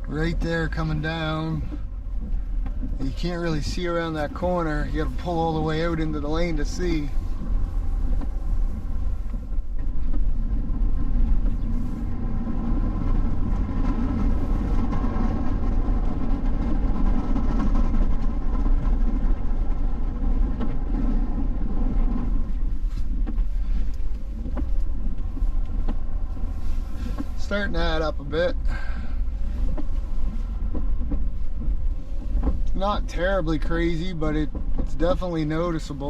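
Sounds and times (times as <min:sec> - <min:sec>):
truck engine and road rumble: 0:00.0 - 0:36.0
tyre noise: 0:00.0 - 0:36.0.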